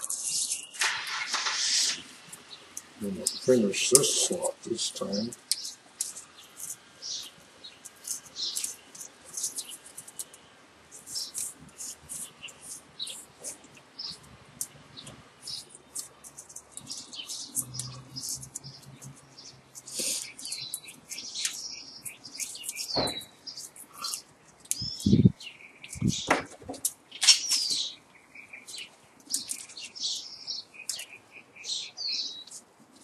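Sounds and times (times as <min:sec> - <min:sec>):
wire scratching and squeaking: 0:00.0 - 0:27.9, 0:28.6 - 0:33.0.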